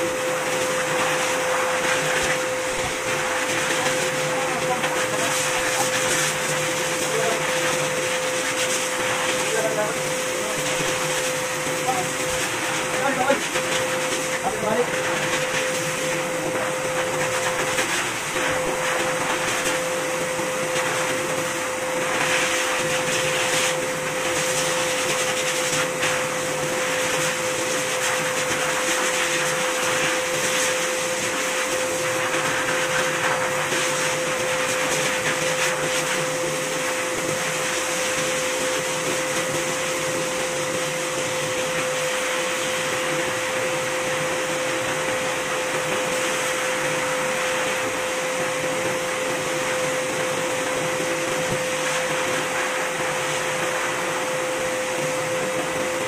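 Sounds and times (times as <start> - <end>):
grooming machine motor running: 0.0 - 56.0
steady high whine: 0.0 - 56.0.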